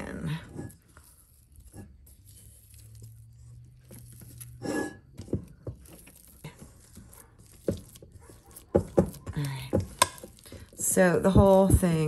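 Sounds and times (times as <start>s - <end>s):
dough tearing and peeling: 0.0s - 12.0s.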